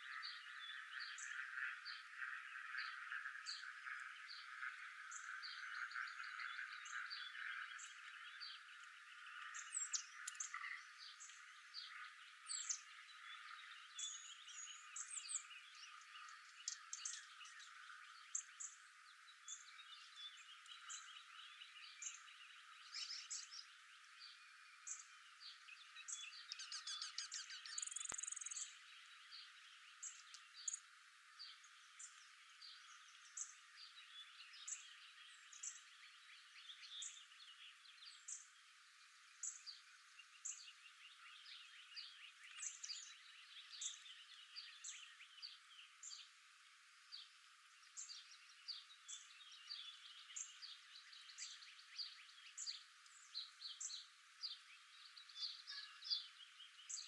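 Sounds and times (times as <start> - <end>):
birds chirping and trilling: 0.0 - 46.4, 47.1 - 57.0.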